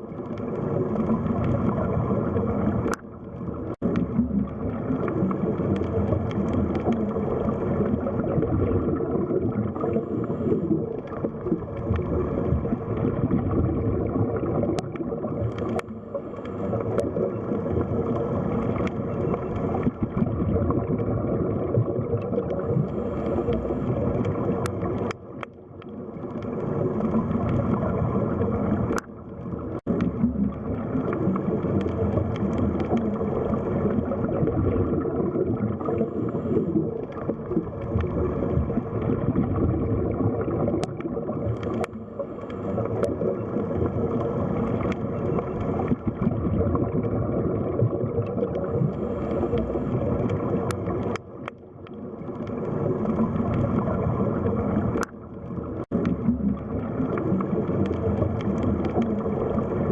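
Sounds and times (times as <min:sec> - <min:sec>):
underwater wash of moving water: 0:00.0 - 0:59.9.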